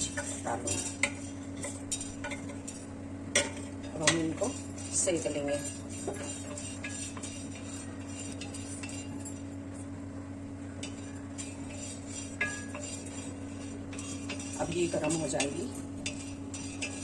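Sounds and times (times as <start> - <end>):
spices clinking on a hot pan: 0.0 - 9.9, 10.8 - 17.0.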